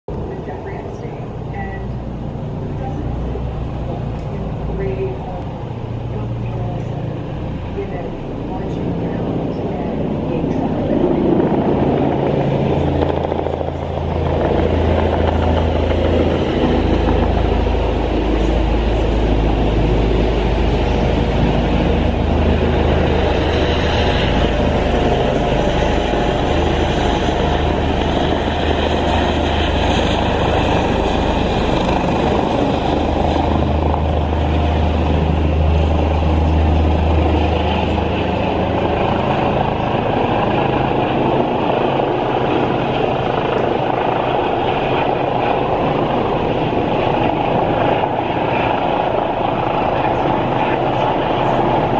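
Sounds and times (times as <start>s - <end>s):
helicopter rotors and engine drone: 0.1s - 51.9s.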